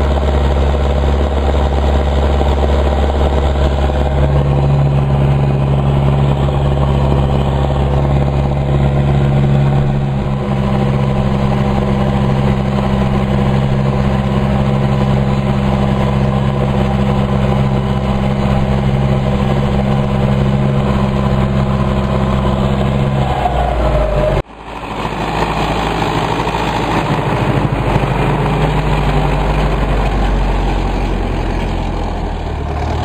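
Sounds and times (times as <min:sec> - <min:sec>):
distorted tractor diesel engine drone: 0:00.0 - 0:33.0.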